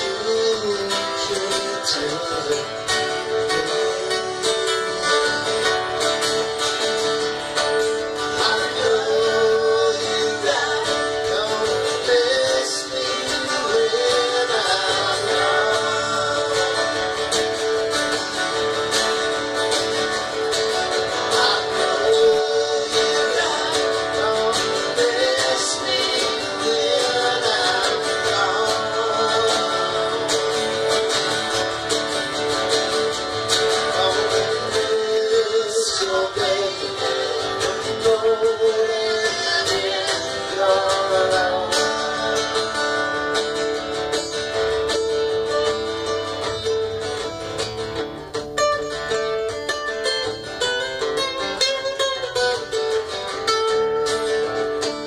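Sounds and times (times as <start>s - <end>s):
acoustic guitars playing folk-rock: 0.0s - 55.0s.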